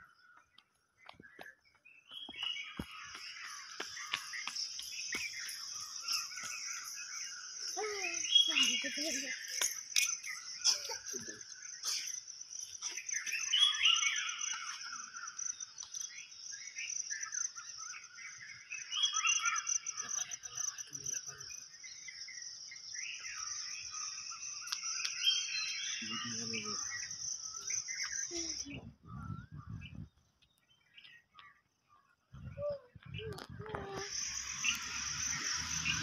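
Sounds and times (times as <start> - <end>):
birds chirping: 0.0 - 36.0
insect trill: 2.6 - 28.8, 33.2 - 36.0.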